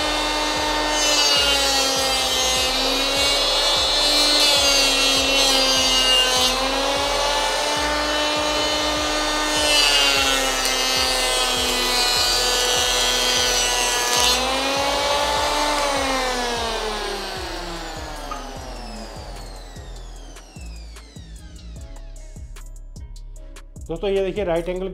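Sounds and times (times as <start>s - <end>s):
planer cutting wood hiss: 0.0s - 21.3s
electric planer whining: 0.0s - 21.6s.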